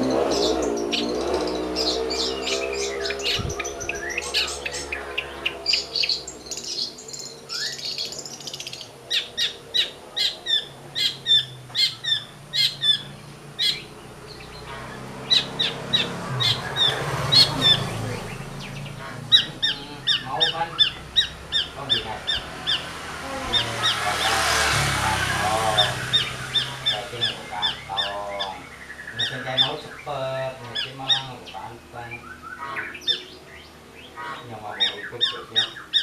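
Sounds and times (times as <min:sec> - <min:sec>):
bird chirping sharply: 0:00.0 - 0:36.0
passing vehicle engine: 0:00.0 - 0:36.0.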